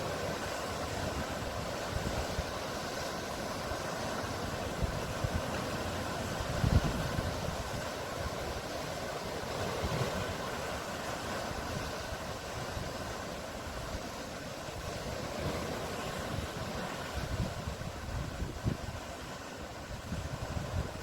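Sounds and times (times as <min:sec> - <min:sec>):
sea waves washing: 0:00.0 - 0:21.0.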